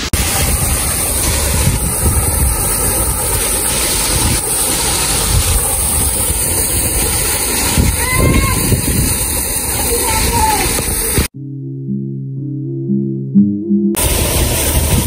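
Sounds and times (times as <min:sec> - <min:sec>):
waterfall splashing into pool: 0:00.0 - 0:11.3, 0:14.0 - 0:15.0
wind buffeting microphone: 0:00.0 - 0:11.3, 0:14.0 - 0:15.0.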